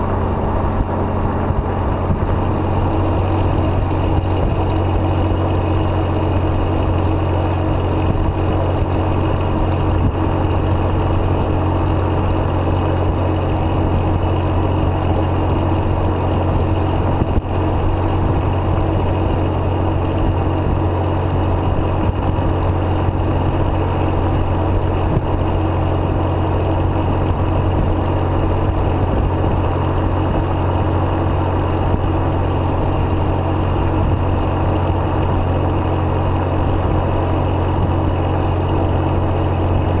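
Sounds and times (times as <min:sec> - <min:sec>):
car exhaust deep drone: 0:00.0 - 0:40.0.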